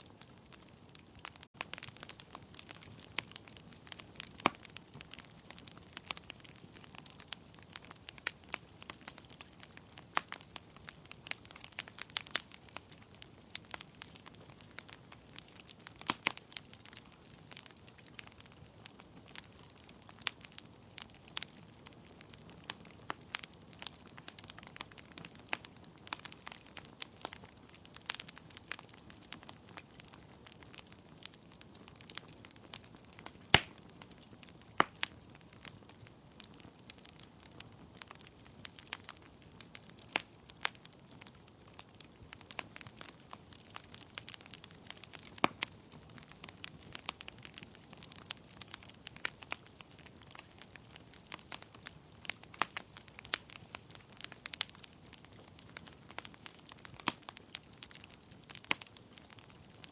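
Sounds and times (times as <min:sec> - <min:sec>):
burning logs popping: 0:00.0 - 0:59.9
wood fire crackling: 0:00.0 - 0:59.9.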